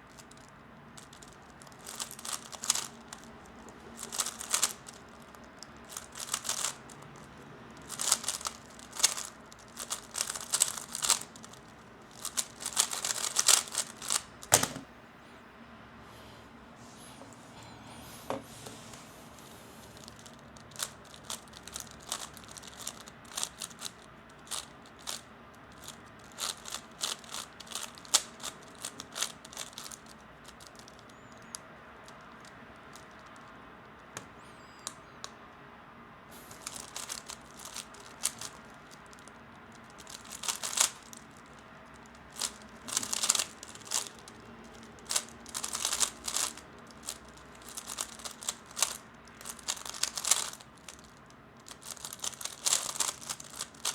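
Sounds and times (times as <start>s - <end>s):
plastic puzzle cube clicking: 0.1s - 14.8s, 20.0s - 31.6s, 36.6s - 53.9s.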